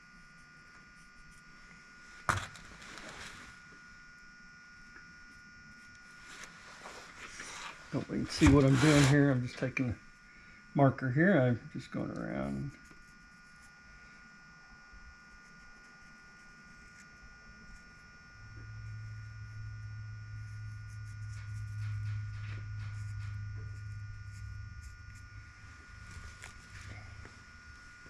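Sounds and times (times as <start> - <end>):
electric drill motor hum: 0.0 - 10.8, 12.0 - 28.0.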